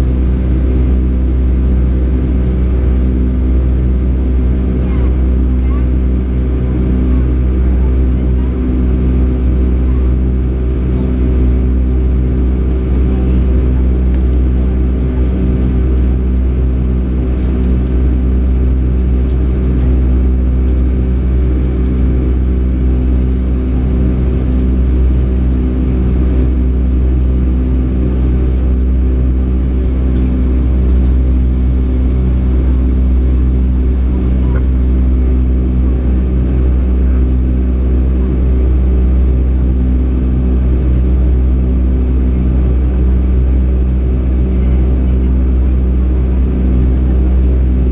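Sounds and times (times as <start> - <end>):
jet engine drone in cabin: 0.0 - 47.9.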